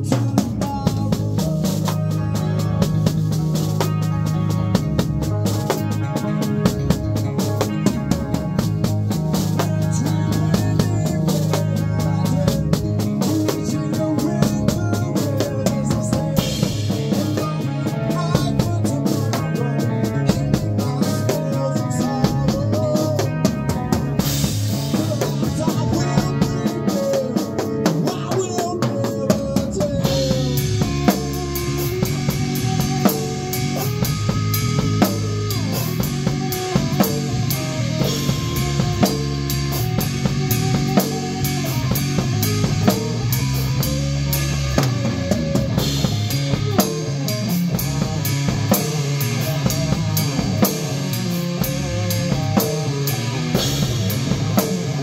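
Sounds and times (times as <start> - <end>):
band guitars: 0.0 - 55.0
drum kit played fast: 0.0 - 55.0.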